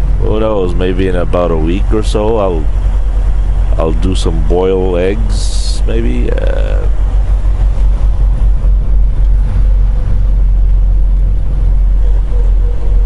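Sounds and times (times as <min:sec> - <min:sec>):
diesel truck engine rumble: 0:00.0 - 0:13.0
road noise: 0:00.0 - 0:13.0.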